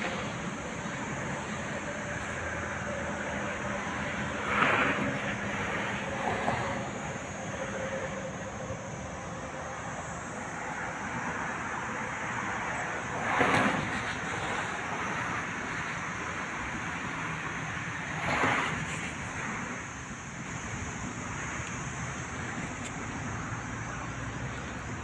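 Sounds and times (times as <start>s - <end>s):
distant traffic: 0.0s - 25.0s.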